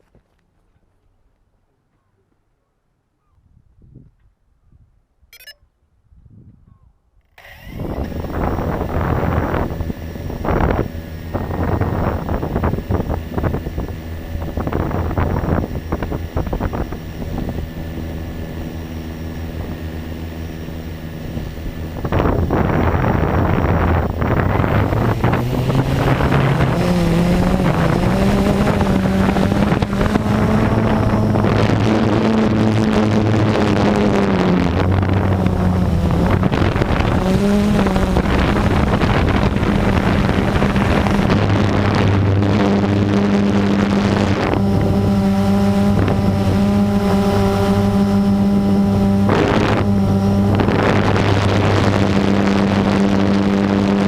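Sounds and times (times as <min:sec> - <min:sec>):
wind noise on microphone: 0:03.3 - 0:54.0
quadcopter motors droning: 0:07.3 - 0:54.0.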